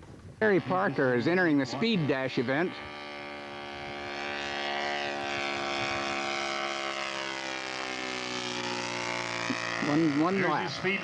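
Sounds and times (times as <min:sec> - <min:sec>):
model airplane motor buzzing: 0:00.0 - 0:11.0.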